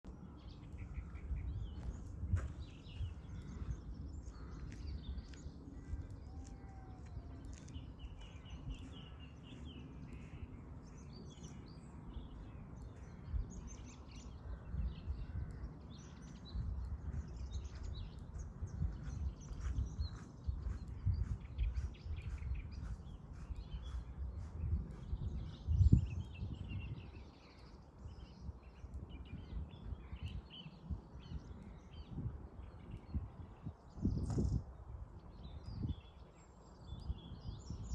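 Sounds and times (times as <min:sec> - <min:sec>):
songbirds chirping: 0:00.0 - 0:37.9
wind rumbling on microphone: 0:00.0 - 0:37.9.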